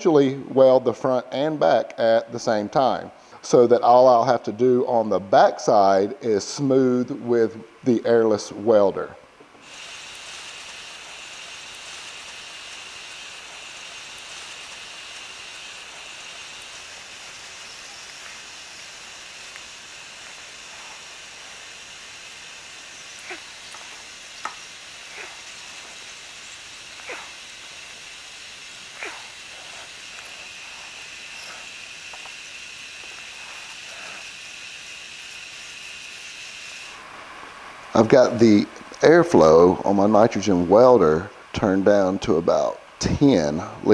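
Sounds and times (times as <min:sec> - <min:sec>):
plastic welder gas hissing: 0:05.0 - 0:43.9.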